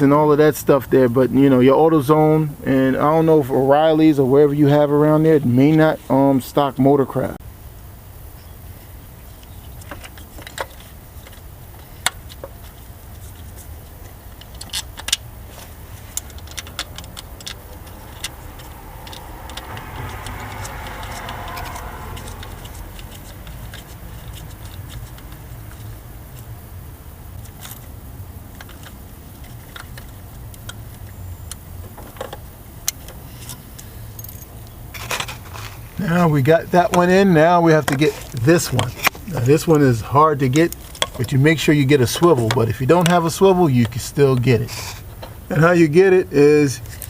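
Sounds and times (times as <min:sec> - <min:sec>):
steady low rumble: 0:00.0 - 0:47.0.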